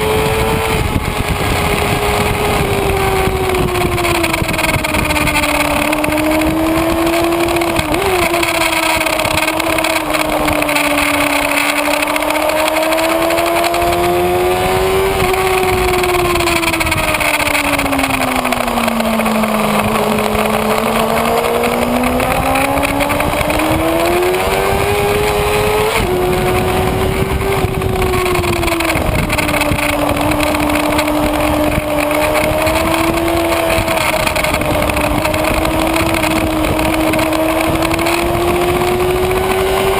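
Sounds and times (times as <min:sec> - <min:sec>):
motorcycle engine at speed: 0:00.0 - 0:39.9
wind rush over microphone: 0:00.0 - 0:39.9.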